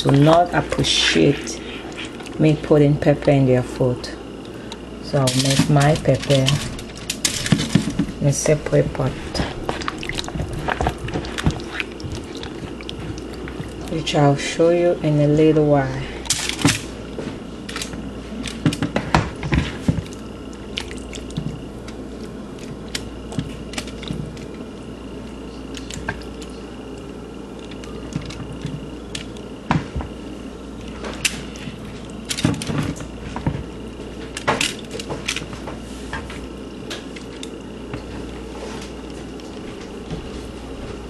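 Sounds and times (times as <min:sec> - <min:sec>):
wet squishing: 0:00.0 - 0:02.5, 0:04.4 - 0:14.5, 0:15.8 - 0:39.6
low background hum: 0:00.0 - 0:41.0.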